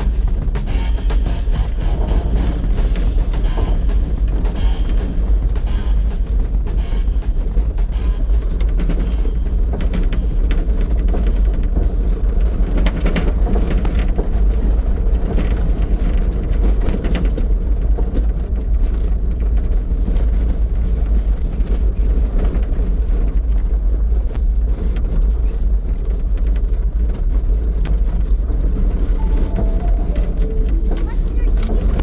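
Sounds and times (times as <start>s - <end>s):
van engine and road rumble: 0.0s - 32.0s.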